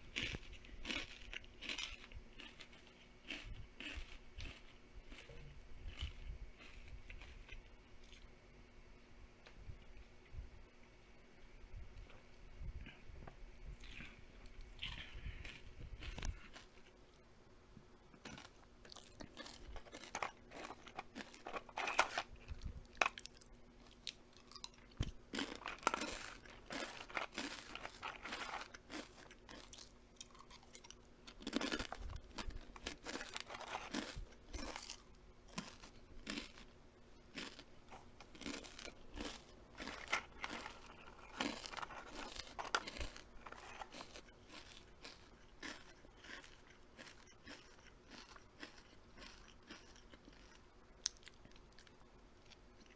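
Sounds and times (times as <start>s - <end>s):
chewing crisp food: 0.0s - 8.4s, 13.7s - 17.2s, 18.0s - 52.9s.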